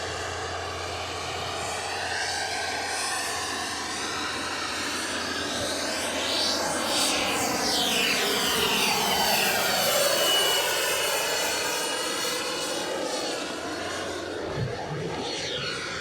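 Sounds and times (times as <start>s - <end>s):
turbine whine: 0.0s - 16.0s.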